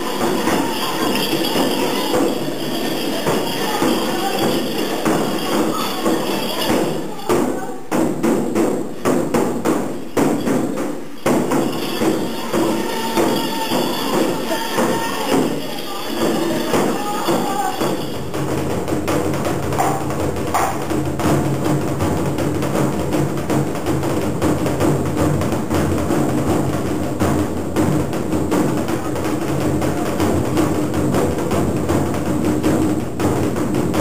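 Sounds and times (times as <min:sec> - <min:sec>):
large drum beaten fast: 0:00.0 - 0:34.0.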